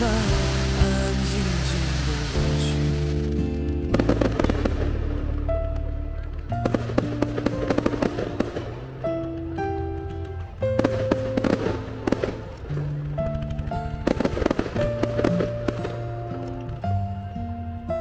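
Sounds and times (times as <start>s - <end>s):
sharp crackling hits: 0.0s - 17.0s.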